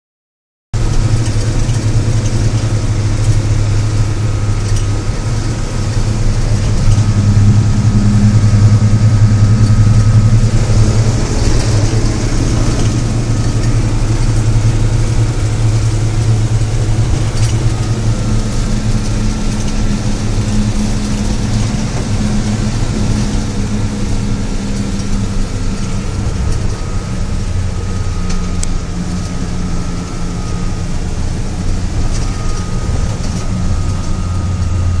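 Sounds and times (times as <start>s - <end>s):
engine cooling fan running: 0.8s - 35.0s
truck engine idling: 0.8s - 35.0s.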